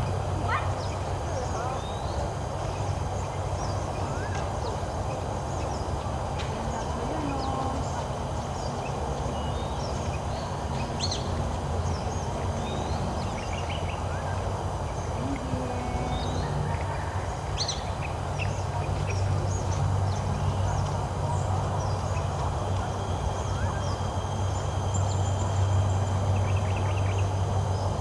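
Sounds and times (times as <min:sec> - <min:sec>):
birds chirping and calling: 0:00.0 - 0:28.0.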